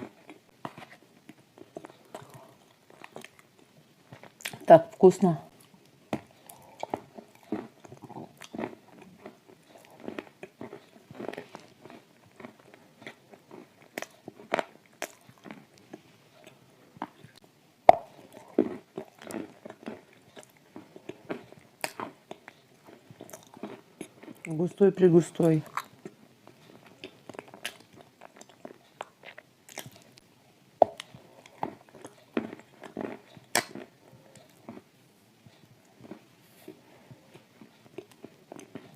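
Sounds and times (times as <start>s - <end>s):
cookie crunching: 0.0s - 17.4s, 18.0s - 30.2s, 30.8s - 34.9s, 35.7s - 38.9s.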